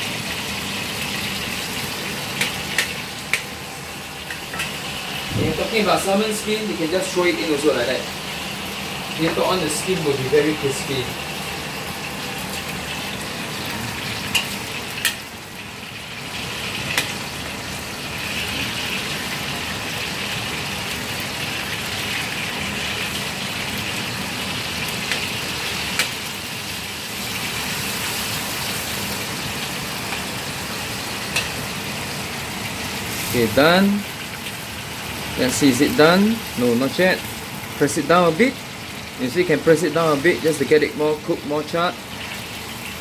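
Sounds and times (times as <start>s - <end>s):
fish sizzling in hot oil: 0.0s - 43.0s.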